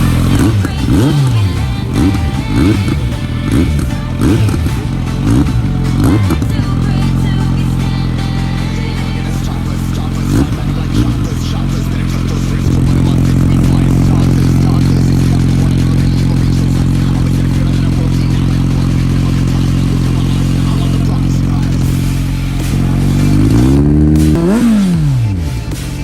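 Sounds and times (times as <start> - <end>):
motorcycle engine revving: 0.0 - 26.0
motorcycle engine running: 0.0 - 26.0.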